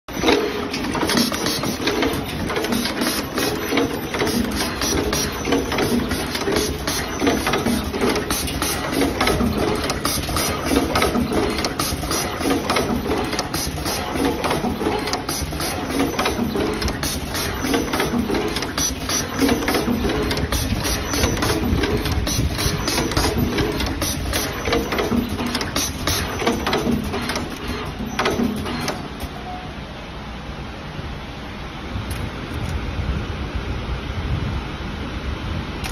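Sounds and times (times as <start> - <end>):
crimping machine clattering: 0.1 - 29.2.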